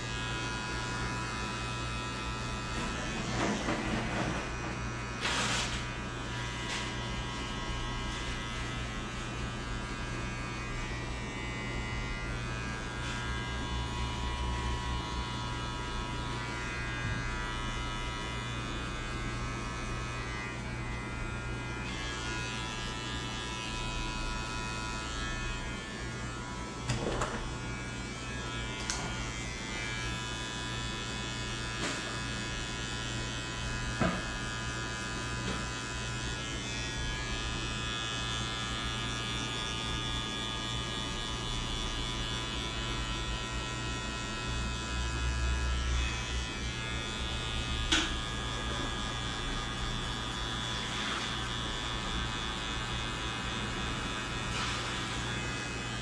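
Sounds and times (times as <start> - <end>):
electric hair clippers buzzing: 0.0 - 56.0.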